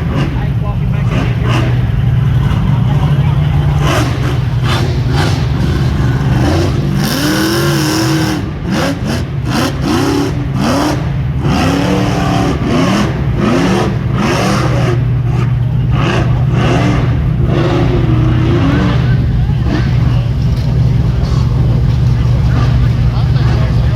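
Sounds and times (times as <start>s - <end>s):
buggy engine running steadily: 0.0s - 23.9s
engine revving in short blips: 0.0s - 23.9s.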